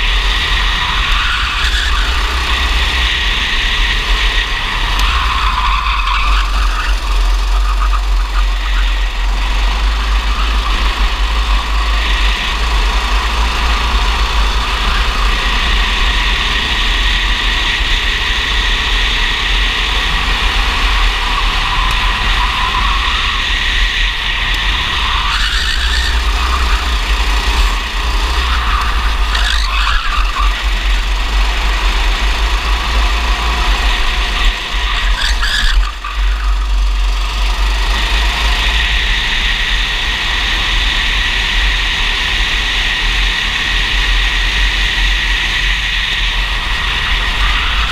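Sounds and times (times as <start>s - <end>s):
kart engine running: 0.0s - 47.9s.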